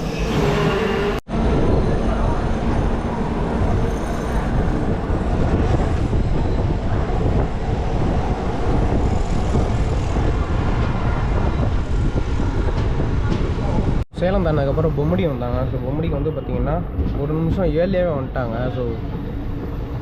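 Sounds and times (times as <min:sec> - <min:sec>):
train rumbling and rattling: 0:00.0 - 0:20.0.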